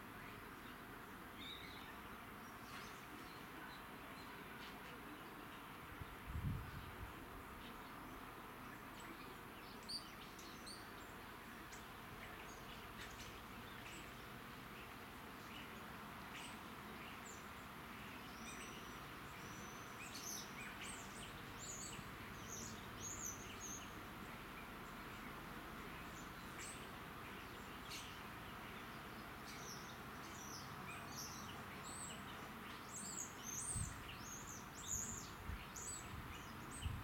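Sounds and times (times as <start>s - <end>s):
outdoor background noise: 0.0s - 37.0s
small birds chirping: 0.0s - 37.0s.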